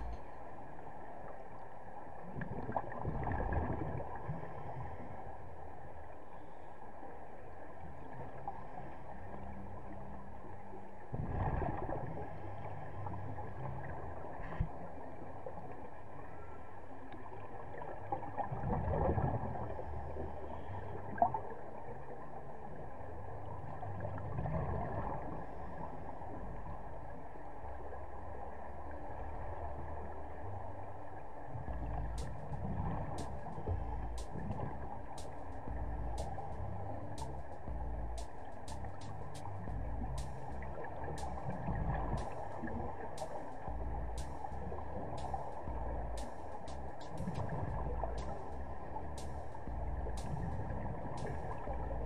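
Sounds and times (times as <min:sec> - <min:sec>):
exhaled bubbles underwater: 0:02.2 - 0:05.4, 0:07.6 - 0:46.4, 0:47.0 - 0:52.0.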